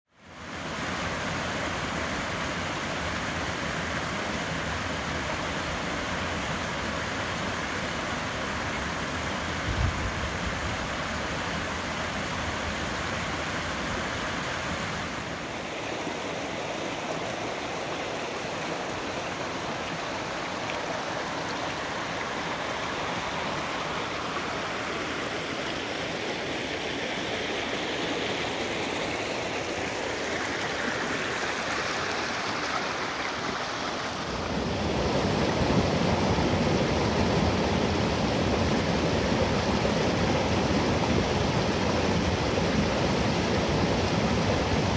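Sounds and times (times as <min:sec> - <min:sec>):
creek water rushing over rocks: 0:00.2 - 0:44.9.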